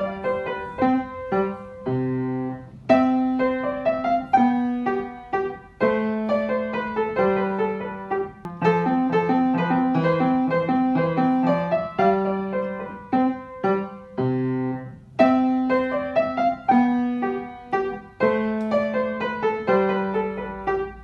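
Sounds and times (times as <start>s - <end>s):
piano piece: 0.0s - 21.0s.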